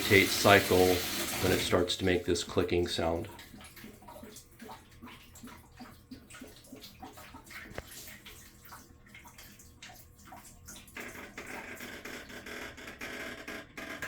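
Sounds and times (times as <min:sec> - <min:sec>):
water pouring into washer tub: 0:00.0 - 0:13.2.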